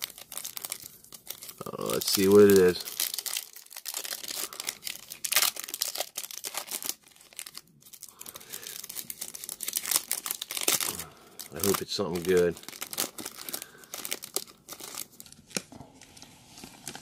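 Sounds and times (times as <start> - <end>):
foil wrapper tearing and crinkling: 0.0 - 17.0.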